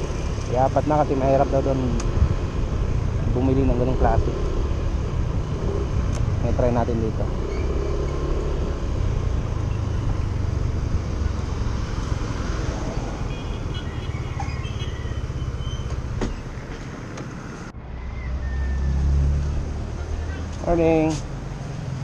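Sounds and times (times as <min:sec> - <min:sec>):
passing vehicles rumble: 0:00.0 - 0:22.0.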